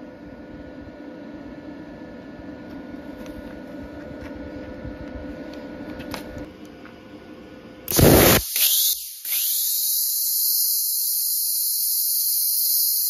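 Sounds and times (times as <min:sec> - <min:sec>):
plasma cutter cooling fan humming: 0:00.0 - 0:13.0.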